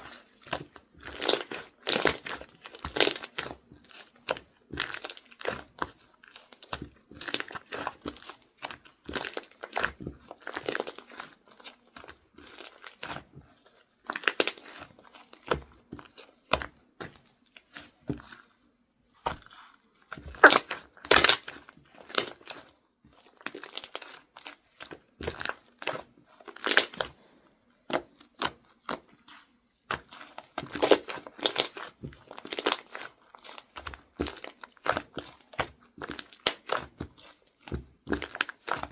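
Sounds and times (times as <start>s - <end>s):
slime crackling and crunching: 0.0s - 27.2s, 27.8s - 38.9s.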